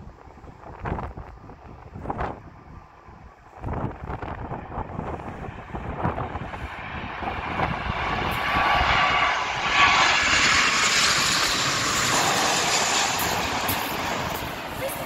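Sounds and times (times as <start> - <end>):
faint engine whine: 0.0 - 15.0
jet airliner roar overhead: 0.0 - 15.0.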